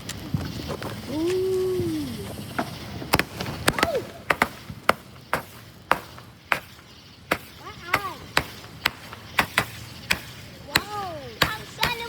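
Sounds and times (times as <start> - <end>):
fireworks popping: 0.0 - 12.0.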